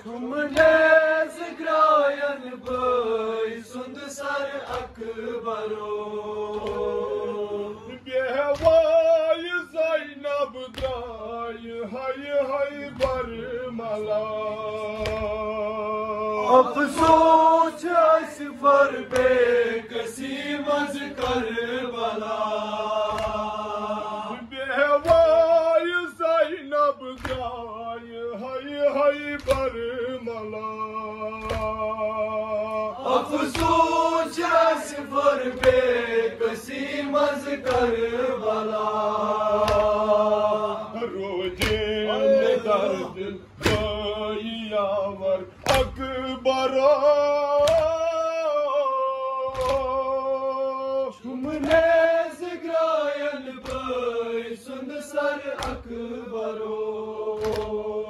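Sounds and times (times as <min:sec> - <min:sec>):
men chanting in unison: 0:00.0 - 0:58.0.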